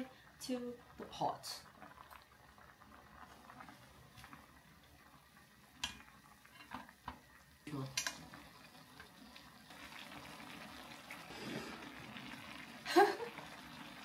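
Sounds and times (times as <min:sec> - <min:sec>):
broth bubbling in a pot: 0:00.0 - 0:14.0.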